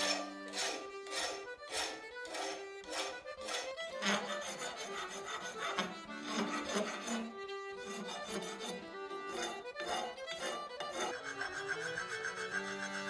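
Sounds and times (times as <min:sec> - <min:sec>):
file rasping on steel: 0:00.0 - 0:13.0.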